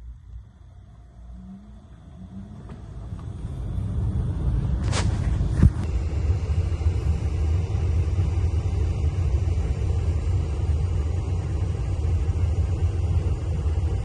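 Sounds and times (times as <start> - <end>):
air handler blower rumbling: 0.0 - 14.0.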